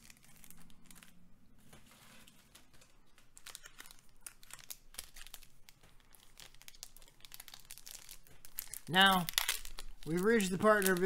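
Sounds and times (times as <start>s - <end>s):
foil wrapper crinkling: 0.0s - 11.0s
trading cards being handled: 0.0s - 11.0s.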